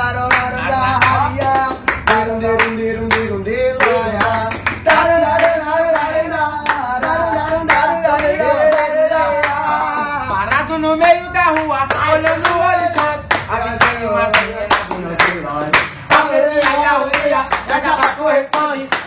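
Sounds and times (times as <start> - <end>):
beat of clap-like hits: 0.1 - 19.0.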